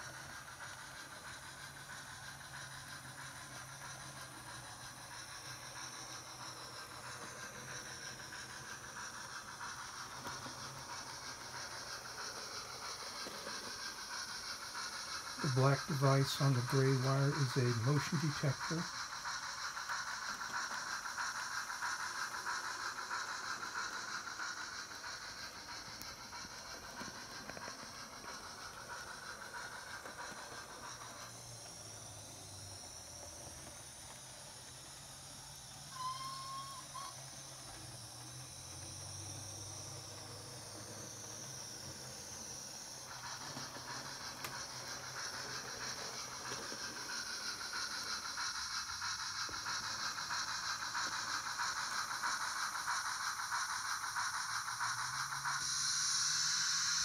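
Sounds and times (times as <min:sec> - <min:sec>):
steady hiss of steam: 0:00.0 - 0:57.0.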